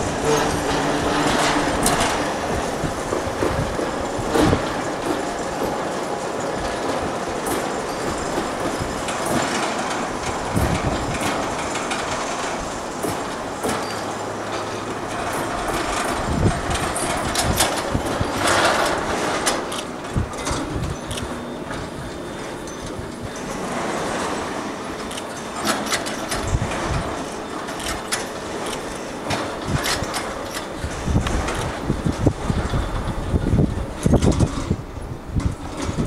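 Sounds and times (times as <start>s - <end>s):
steel wheels rolling and squealing: 0.0s - 36.0s
metal clanks and knocks: 0.1s - 33.1s.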